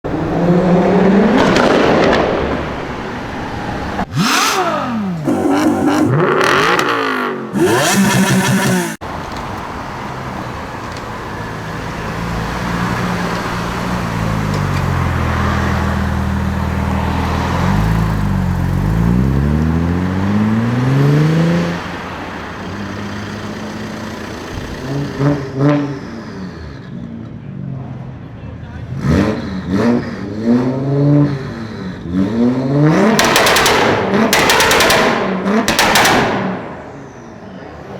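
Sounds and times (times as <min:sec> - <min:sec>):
car engine revving: 0:00.0 - 0:26.9, 0:28.9 - 0:37.3.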